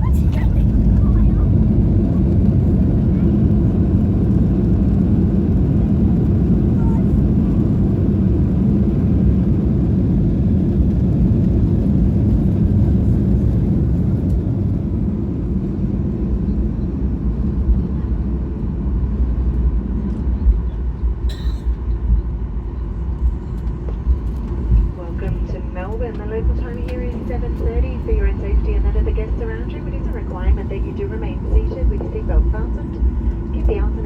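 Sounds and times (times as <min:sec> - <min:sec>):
low rumble of engines and wheels: 0:00.0 - 0:34.0.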